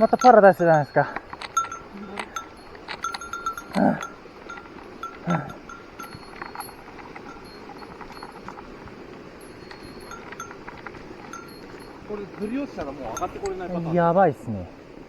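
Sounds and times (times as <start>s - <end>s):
small bell tinkling: 0.0s - 14.0s.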